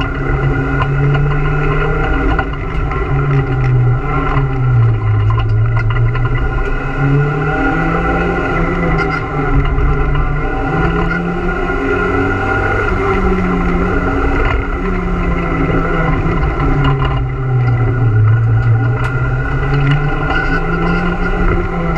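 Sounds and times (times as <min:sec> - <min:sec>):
car engine accelerating: 0:00.0 - 0:21.9.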